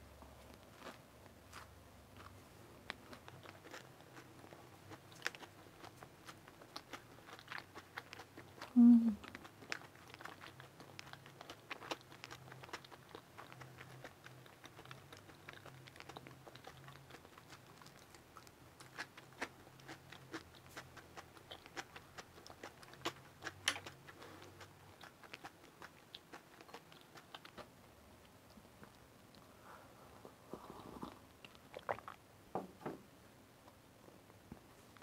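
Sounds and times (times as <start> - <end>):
faint low hum: 0.0 - 35.0
person chewing with small crunches: 0.1 - 29.6, 30.2 - 32.2.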